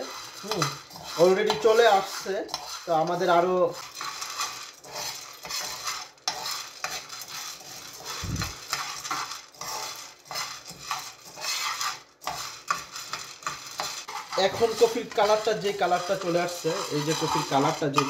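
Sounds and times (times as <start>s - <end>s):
coffee beans rattling in pan: 0.0s - 18.0s
spoon scraping pan: 0.0s - 18.0s.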